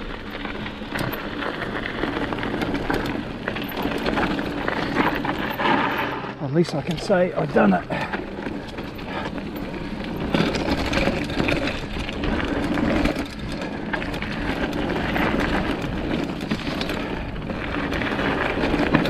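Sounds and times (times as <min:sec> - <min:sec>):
bike clattering over bumps: 0:00.0 - 0:19.0
tyres crunching on dirt: 0:00.0 - 0:19.0.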